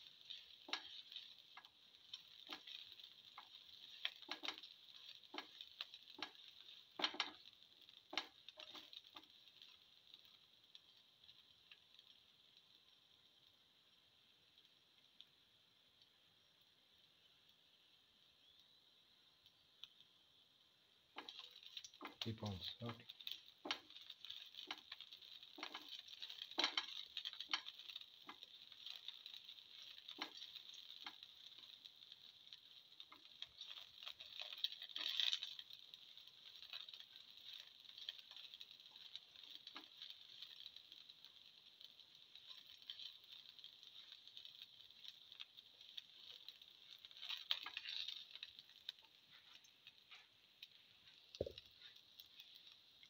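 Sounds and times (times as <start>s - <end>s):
spatula pushing food in pan: 0.0s - 12.2s, 21.2s - 53.0s
oil sizzling: 0.0s - 53.0s
shallots dropping into hot oil: 0.0s - 53.0s.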